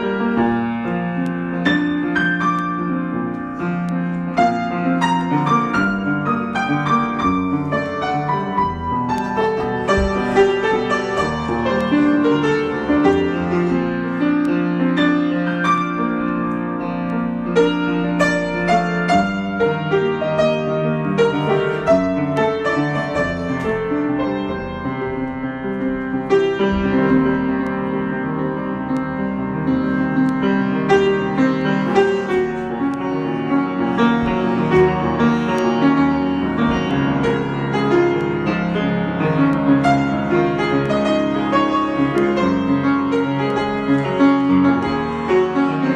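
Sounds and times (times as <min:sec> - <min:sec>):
piano improvisation: 0:00.0 - 0:45.9.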